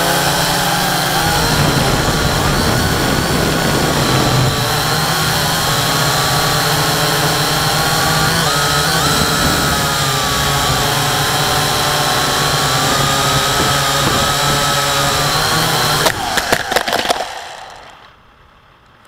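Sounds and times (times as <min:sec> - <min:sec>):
drone motors whining: 0:00.0 - 0:18.4.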